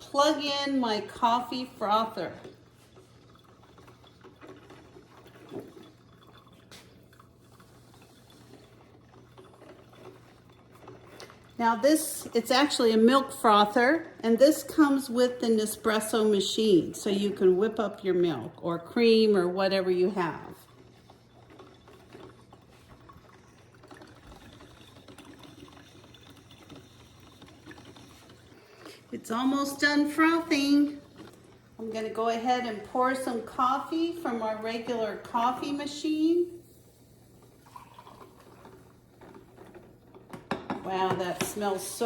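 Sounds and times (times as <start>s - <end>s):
milk frother humming: 0.0s - 42.0s
milk swirling: 0.0s - 42.0s.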